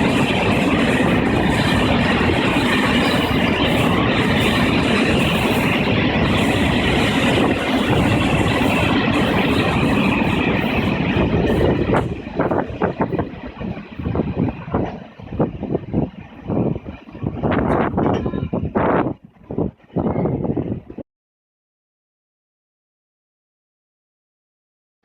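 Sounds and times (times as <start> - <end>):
express train passing at speed: 0.0 - 21.0.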